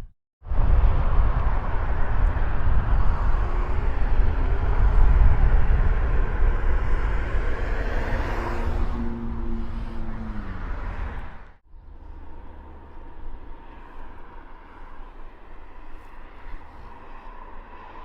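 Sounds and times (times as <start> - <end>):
traffic rumble: 0.5 - 18.0.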